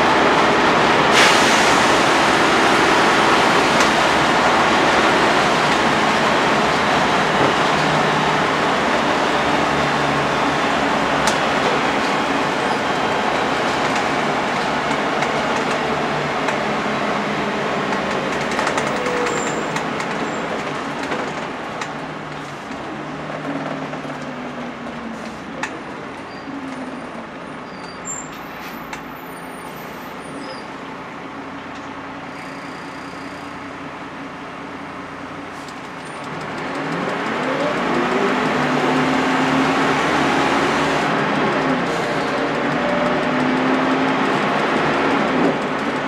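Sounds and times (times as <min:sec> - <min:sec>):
bus diesel engine: 0:00.0 - 0:46.0
road noise: 0:00.0 - 0:46.0.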